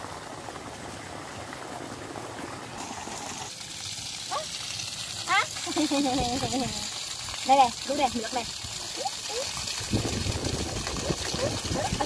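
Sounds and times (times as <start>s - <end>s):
hose water splashing on leaves: 0.0s - 12.0s.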